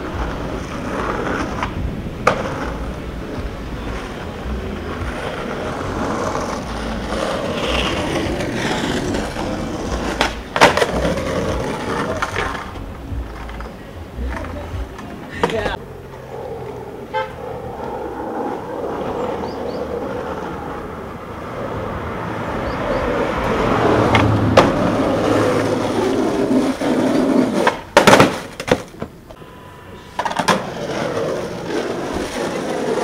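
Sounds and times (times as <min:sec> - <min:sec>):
skateboard clacking on road: 0:00.0 - 0:29.4, 0:30.0 - 0:33.0
skateboard wheels rolling on asphalt: 0:00.0 - 0:33.0.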